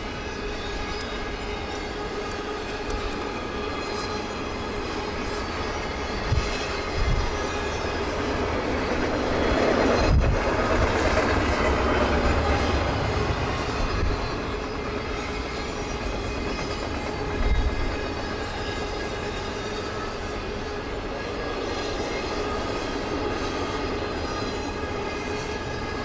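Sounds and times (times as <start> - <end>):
railroad cars rolling on rails: 0.0 - 26.0.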